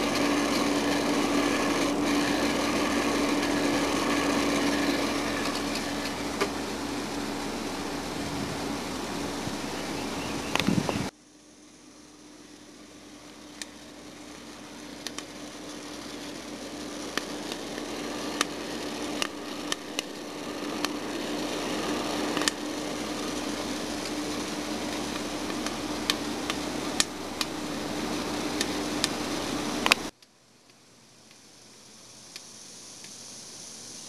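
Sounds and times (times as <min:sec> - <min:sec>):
roaster fan humming: 0:00.0 - 0:34.0.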